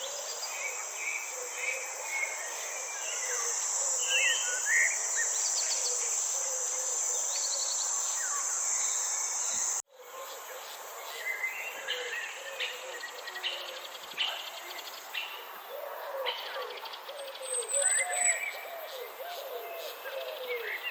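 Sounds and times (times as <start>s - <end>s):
crickets trilling: 0.0s - 20.9s.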